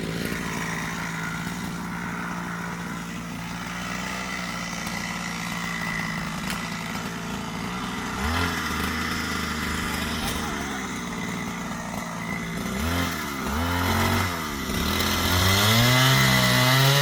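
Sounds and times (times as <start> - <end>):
diesel engine running: 0.0 - 16.8.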